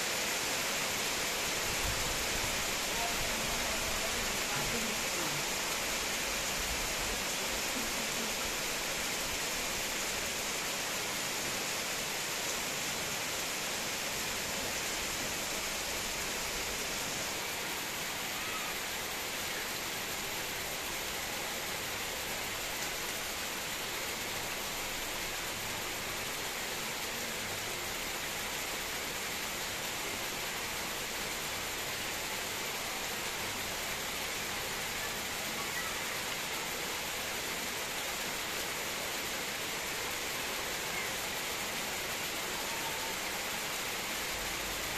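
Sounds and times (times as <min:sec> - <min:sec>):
heavy rain on foliage: 0:00.0 - 0:44.9.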